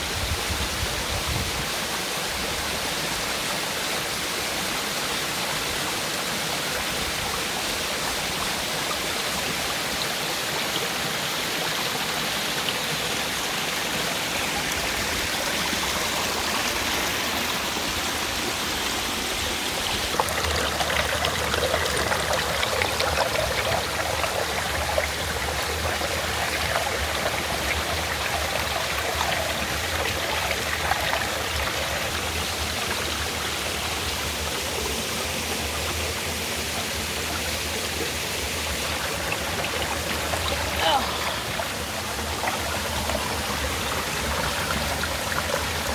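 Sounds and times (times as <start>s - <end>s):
waterfall rushing and splashing: 0.0s - 45.9s.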